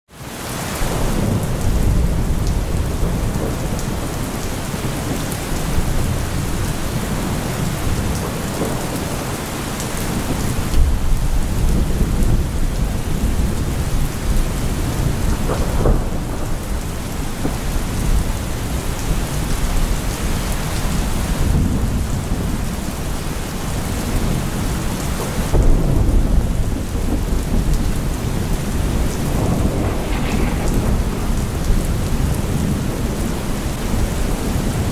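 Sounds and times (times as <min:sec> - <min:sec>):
heavy rain hiss: 0:00.2 - 0:34.9
rolling thunder: 0:00.8 - 0:34.9.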